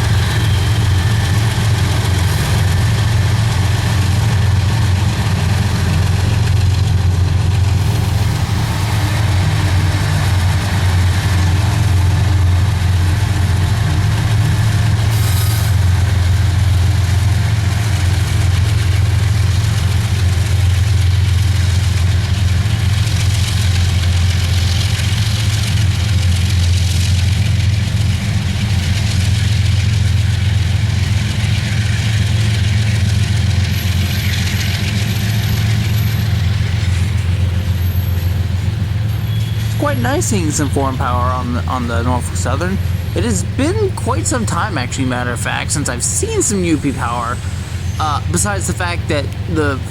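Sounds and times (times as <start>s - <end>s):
locomotive engine drone: 0.0s - 49.9s.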